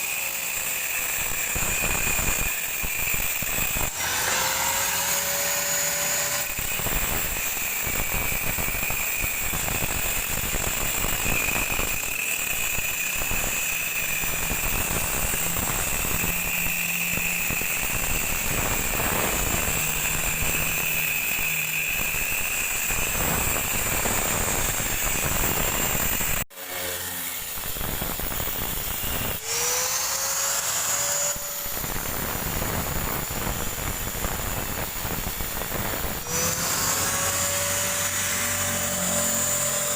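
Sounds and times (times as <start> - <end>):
electric grinder cutting steel: 0.0 - 39.9.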